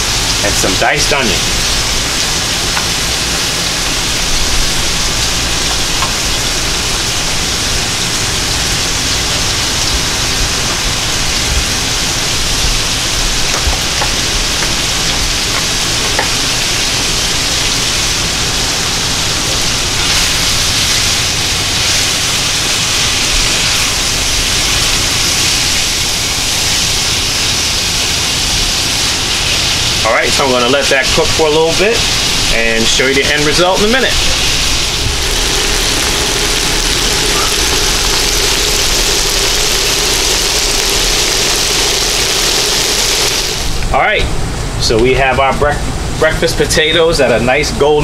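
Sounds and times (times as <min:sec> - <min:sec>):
potatoes frying in oil: 0:00.0 - 0:43.9.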